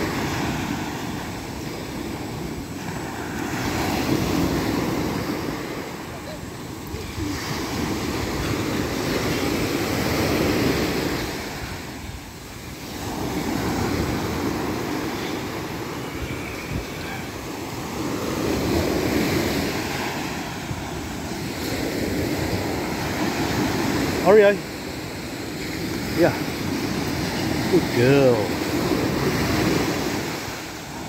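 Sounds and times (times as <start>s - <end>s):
sea surf on beach: 0.0s - 31.0s.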